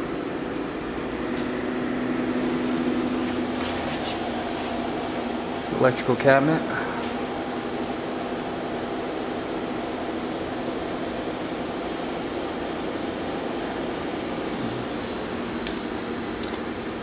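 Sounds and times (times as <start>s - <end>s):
cooling fans humming: 0.0s - 17.0s.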